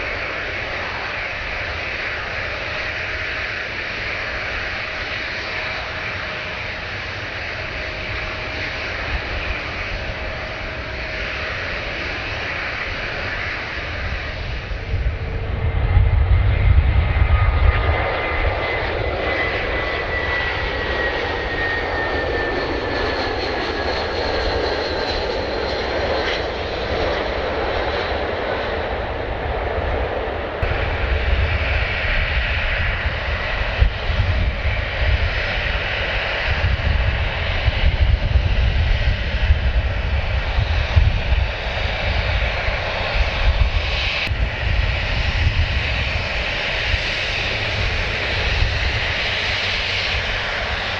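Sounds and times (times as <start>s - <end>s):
jet engine whine falling in pitch: 0.0s - 50.9s
jet engines passing: 0.0s - 50.9s.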